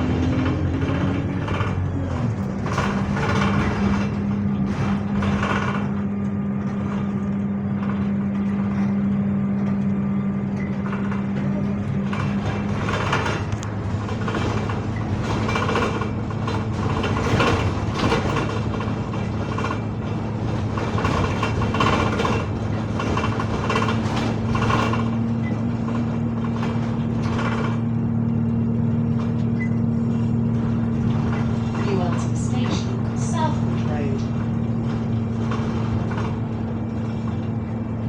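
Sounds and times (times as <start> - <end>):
bus engine and gearbox drone: 0.0 - 38.0
short rattles: 0.2 - 38.0.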